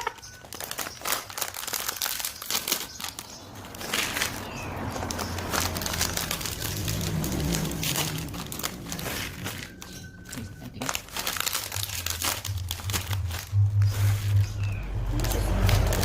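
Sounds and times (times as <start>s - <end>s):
plastic snack packet crinkling: 0.0s - 16.0s.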